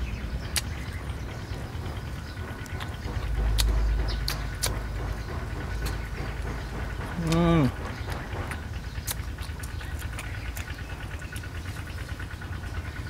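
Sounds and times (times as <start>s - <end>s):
low rumble: 0.0s - 13.0s
crunchy fruit chewing: 1.8s - 13.0s.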